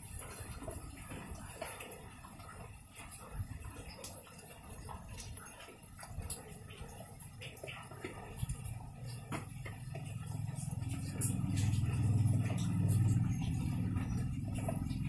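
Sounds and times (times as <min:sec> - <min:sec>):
raindrops tapping on leaves: 0:00.0 - 0:15.0.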